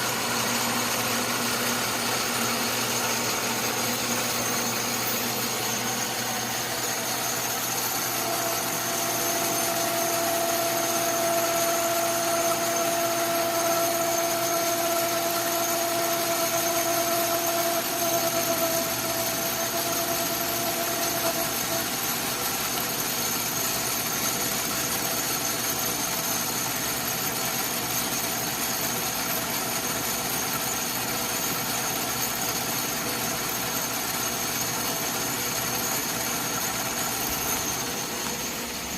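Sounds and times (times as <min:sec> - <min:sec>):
metal lathe whine: 0:00.0 - 0:38.9.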